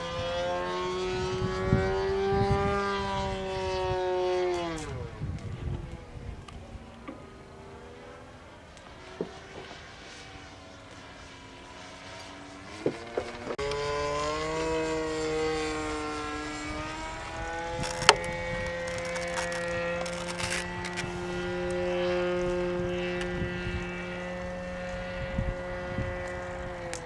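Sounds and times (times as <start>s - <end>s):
model airplane engine droning: 0.0s - 27.0s.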